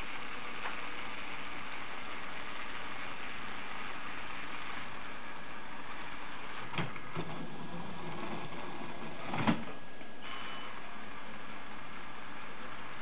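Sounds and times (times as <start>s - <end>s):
electric motors and gears whirring: 0.0s - 13.0s.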